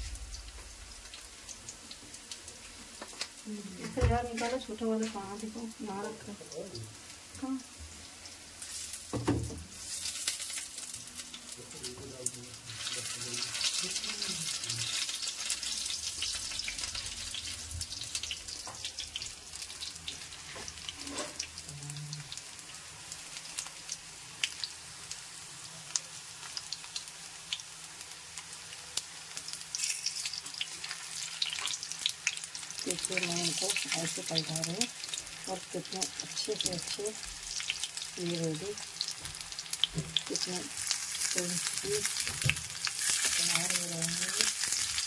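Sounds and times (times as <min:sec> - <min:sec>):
food sizzling in hot oil: 0:00.0 - 0:45.0.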